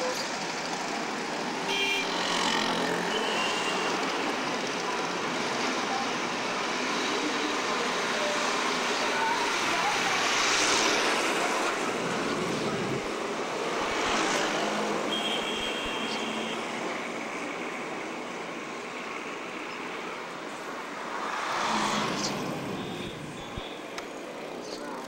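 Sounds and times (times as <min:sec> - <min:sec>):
vehicles passing: 0:00.2 - 0:25.0.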